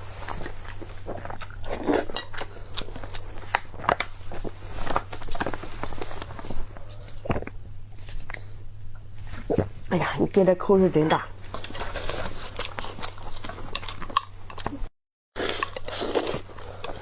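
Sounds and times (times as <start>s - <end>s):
steady low hum: 0.0s - 14.9s
chewing and biting: 0.1s - 9.8s, 11.5s - 17.0s.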